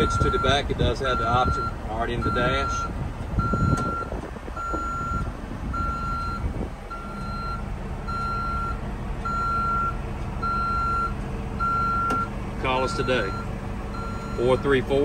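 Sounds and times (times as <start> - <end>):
backup alarm beeping: 0.0 - 12.3, 12.9 - 14.8
diesel engine idling: 0.0 - 15.0.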